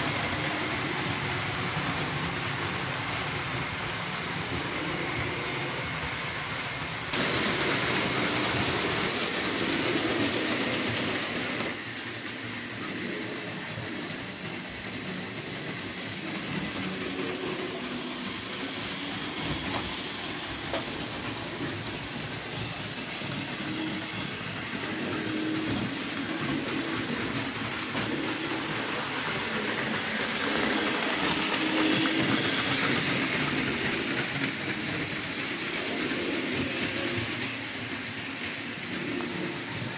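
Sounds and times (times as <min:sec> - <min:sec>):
model trains whirring on metal track: 0:00.0 - 0:39.9.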